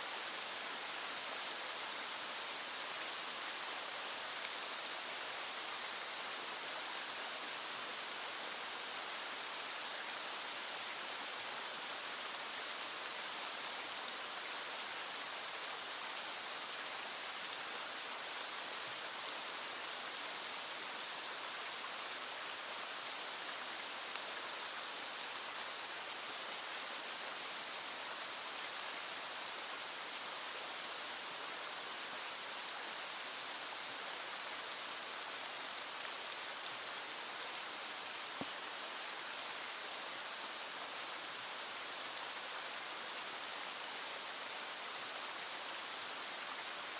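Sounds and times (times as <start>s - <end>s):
rain falling: 0.0s - 46.9s
stream flowing: 0.0s - 46.9s.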